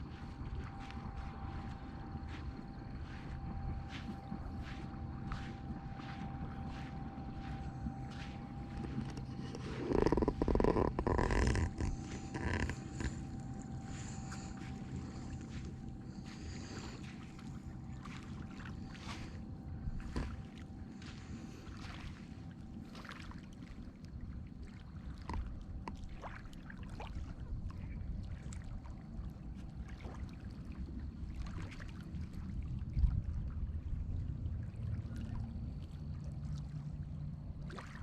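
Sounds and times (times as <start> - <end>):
steady low rumble: 0.0 - 26.2, 27.4 - 38.0
water lapping and splashing: 0.0 - 38.0.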